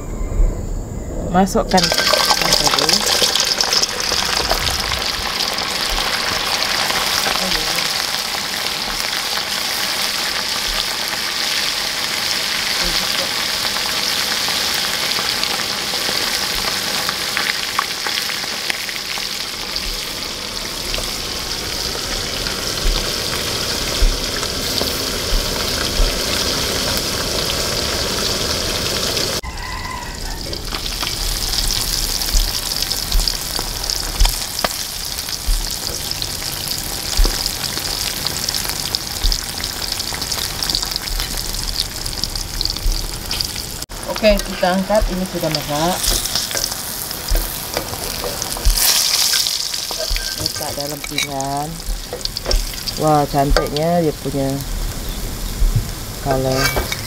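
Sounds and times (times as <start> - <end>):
fish deep-frying in hot oil: 1.8 - 57.0.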